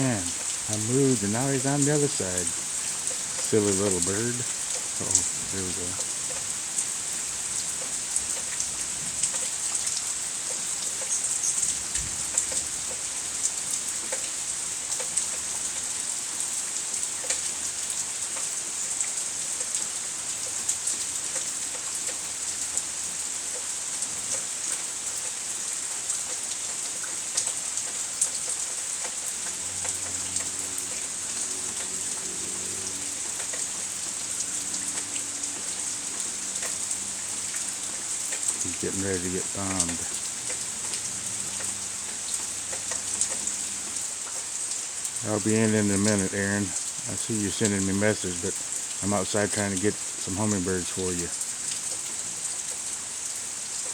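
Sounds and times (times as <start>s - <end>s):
raindrops ticking: 0.0s - 53.9s
steady rain hiss: 0.0s - 53.9s.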